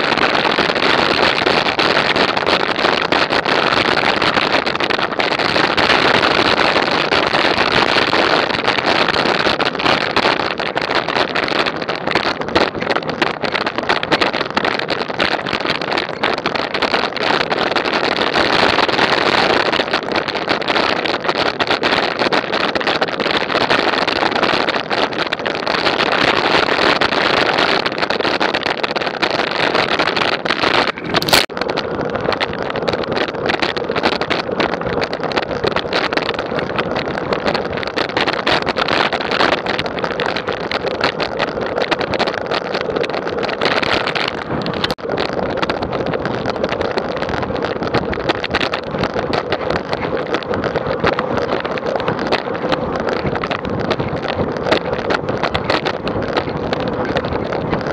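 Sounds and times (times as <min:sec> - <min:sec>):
road noise: 0:00.0 - 0:57.9
wind rushing over microphone: 0:00.0 - 0:57.9.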